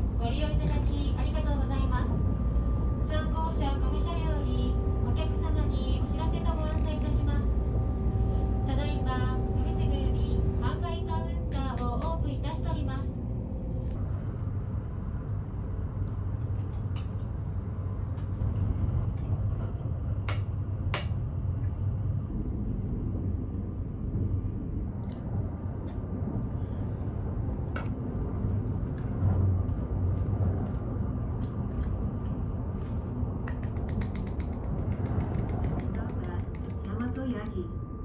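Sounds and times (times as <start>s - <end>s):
train running rumble: 0.0s - 38.0s.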